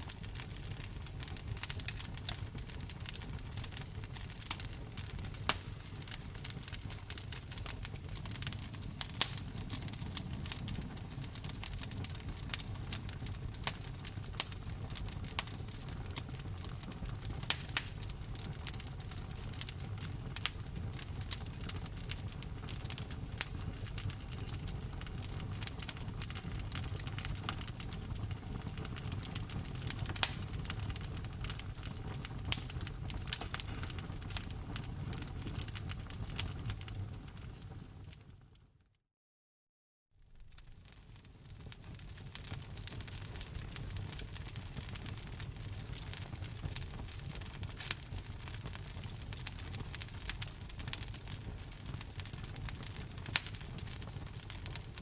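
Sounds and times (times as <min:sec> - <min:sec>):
fire pops and snaps: 0:00.0 - 0:38.4, 0:40.3 - 0:55.0
wood fire crackling: 0:00.0 - 0:38.4, 0:40.2 - 0:55.0
low rumble of burning logs: 0:00.0 - 0:38.6, 0:40.2 - 0:55.0.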